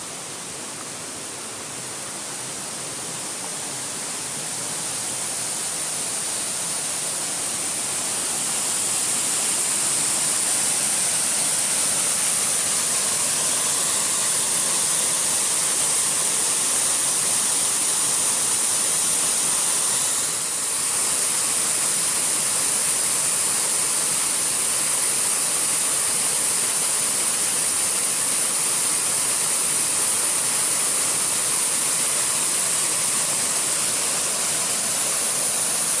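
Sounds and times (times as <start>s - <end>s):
waterfall pouring: 6.1s - 36.0s.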